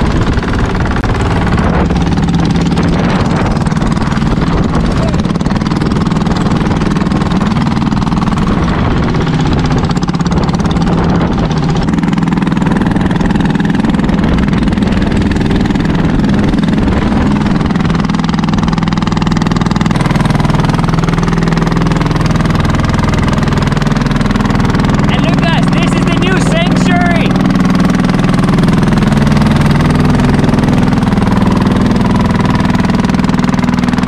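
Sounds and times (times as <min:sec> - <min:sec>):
jet ski engine running: 0:00.0 - 0:34.0
wind: 0:00.0 - 0:34.0.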